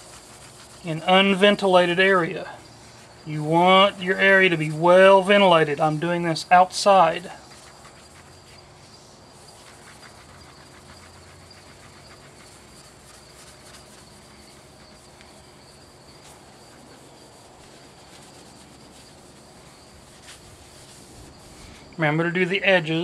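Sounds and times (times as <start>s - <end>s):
rag wiping paddle blade: 0.0s - 8.6s, 9.4s - 21.8s
insects chirring: 0.0s - 23.0s.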